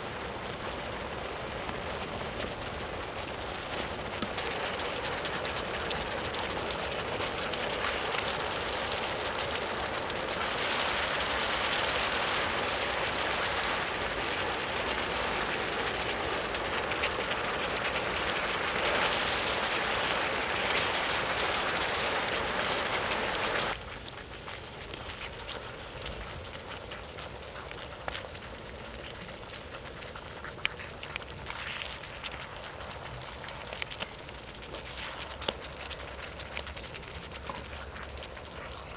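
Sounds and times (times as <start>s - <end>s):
meat sizzling: 0.0s - 38.9s.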